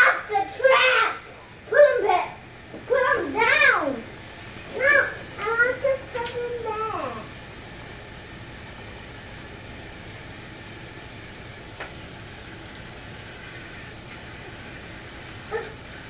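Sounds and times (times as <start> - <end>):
toy train motors running: 0.0 - 16.0.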